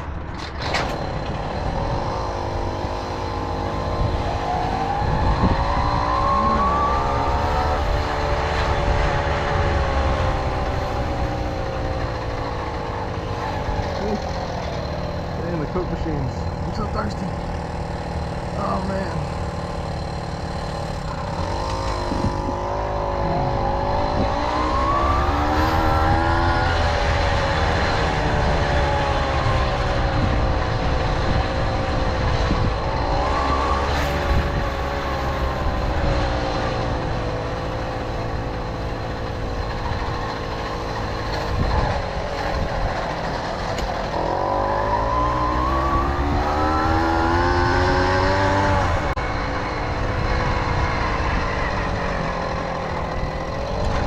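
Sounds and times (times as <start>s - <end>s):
wind rumble on microphone: 0.0s - 14.9s, 20.8s - 54.0s
two-stroke moped engine revving: 1.0s - 54.0s.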